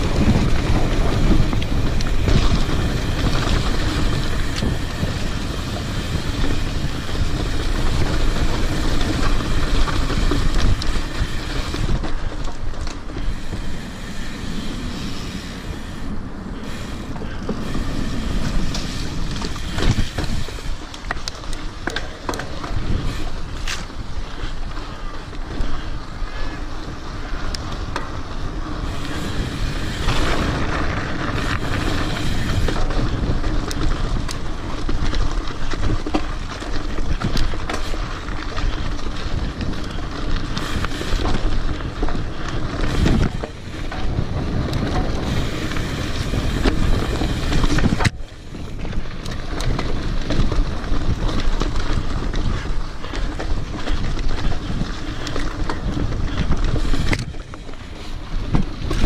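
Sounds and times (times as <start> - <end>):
bike rattling over rocky trail: 0.0 - 59.0
wind rushing over microphone: 0.0 - 59.0.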